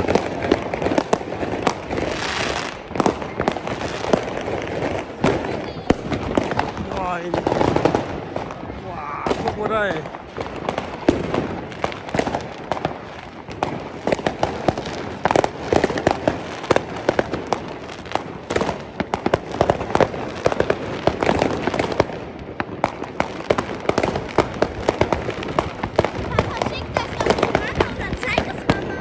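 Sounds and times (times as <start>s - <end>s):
fireworks and firecrackers banging: 0.0s - 29.0s.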